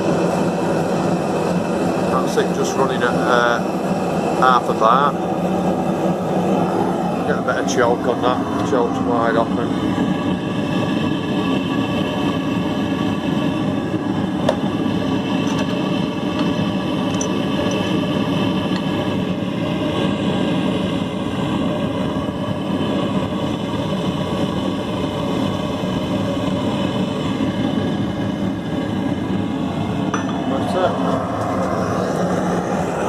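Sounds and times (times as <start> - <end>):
gas forge burner roaring: 0.0 - 33.0.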